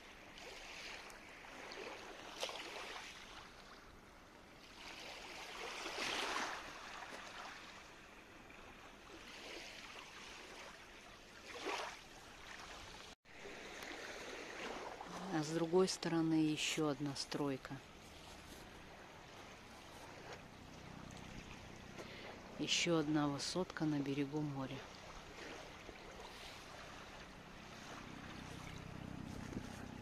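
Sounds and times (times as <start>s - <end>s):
small waves lapping on pebbles: 0.0s - 30.0s.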